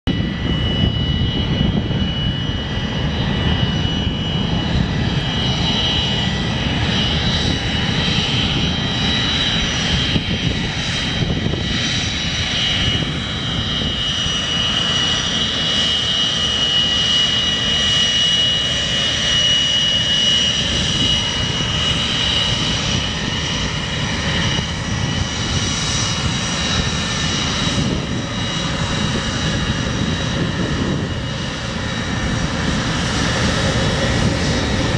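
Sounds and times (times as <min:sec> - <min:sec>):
jet engine whine and rumble: 0:00.1 - 0:34.9.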